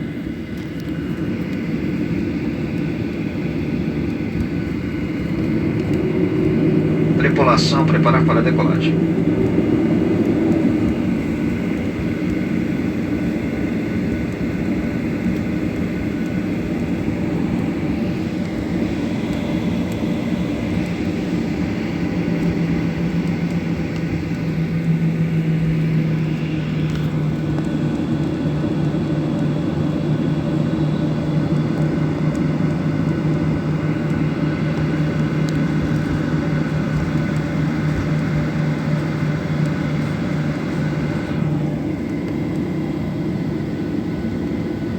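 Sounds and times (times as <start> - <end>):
jet engines droning: 0.0 - 44.9.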